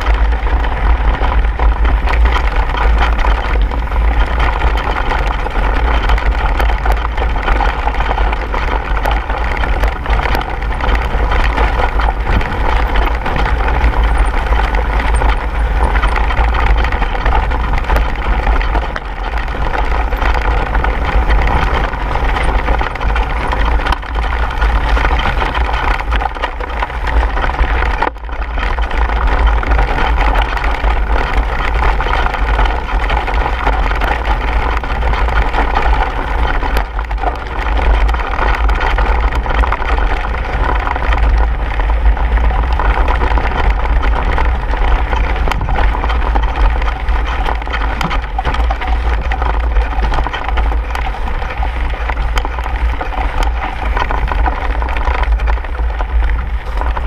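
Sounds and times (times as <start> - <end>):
bike tyres on gravel trail: 0.0 - 57.0
wind rumble on microphone: 0.0 - 57.0.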